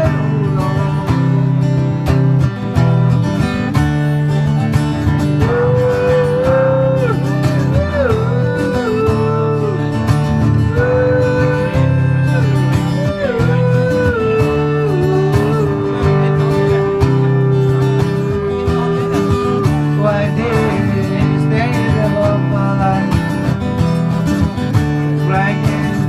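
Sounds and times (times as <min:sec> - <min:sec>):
bending lead guitar melody: 0:00.0 - 0:26.0
strummed acoustic guitar: 0:00.0 - 0:26.0.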